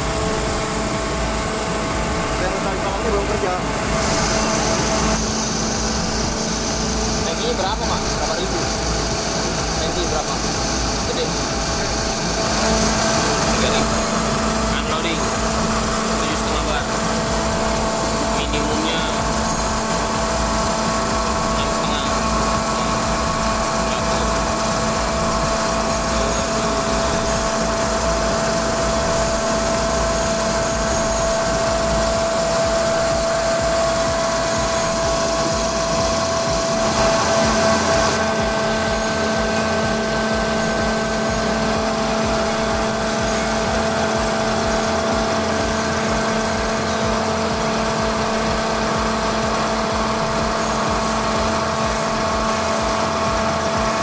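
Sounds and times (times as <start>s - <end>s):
air compressor droning: 0.0s - 54.0s
rush of air and fan: 0.0s - 54.0s.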